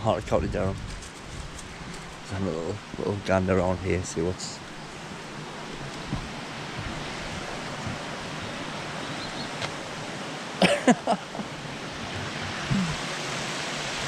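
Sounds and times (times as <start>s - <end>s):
waterfall rushing: 2.2s - 14.0s.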